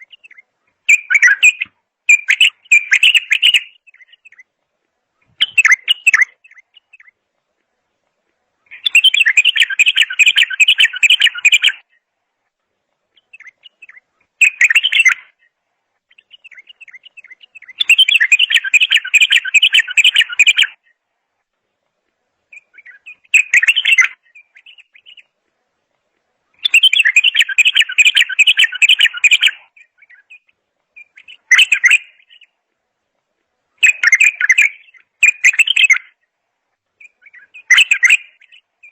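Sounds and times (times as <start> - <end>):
songbird warbling: 0.0 - 4.5, 5.2 - 7.2, 8.6 - 12.0, 13.1 - 21.0, 22.5 - 25.4, 26.5 - 32.6, 33.7 - 36.3, 37.0 - 38.9.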